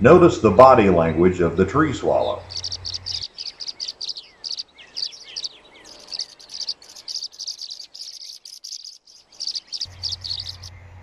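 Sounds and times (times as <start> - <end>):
small birds chirping rapidly: 1.7 - 11.0.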